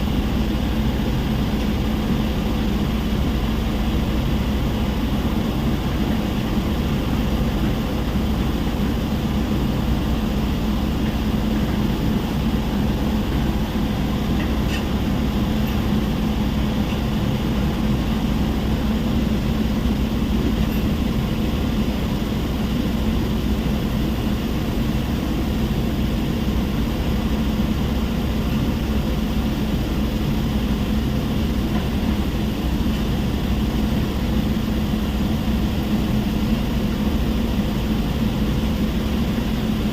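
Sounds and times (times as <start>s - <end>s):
heavy machinery droning: 0.0s - 39.9s.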